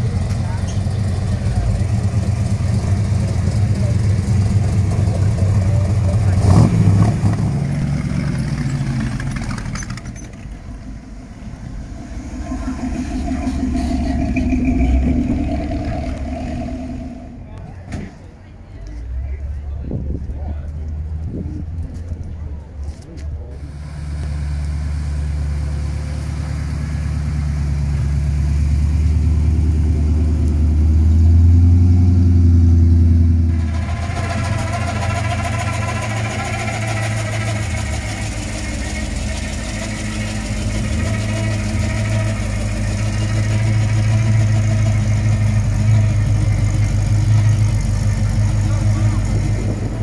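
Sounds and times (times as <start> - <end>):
car engine idling: 0.0 - 22.8, 23.4 - 50.0.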